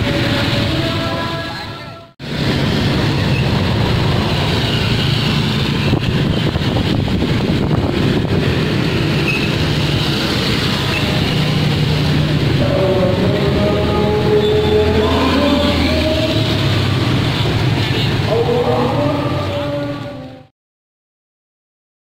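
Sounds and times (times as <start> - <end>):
street traffic rumble: 0.0 - 20.5.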